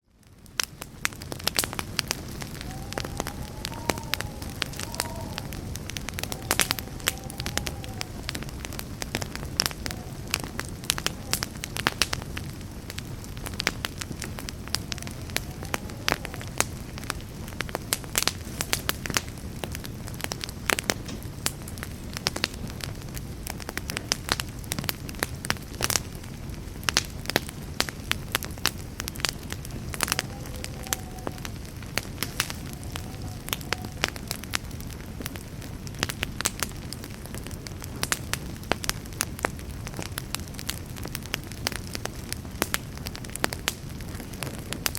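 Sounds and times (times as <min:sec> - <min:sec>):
burning wood crackling and popping: 0:00.0 - 0:44.9
low rush of flame: 0:00.0 - 0:44.9.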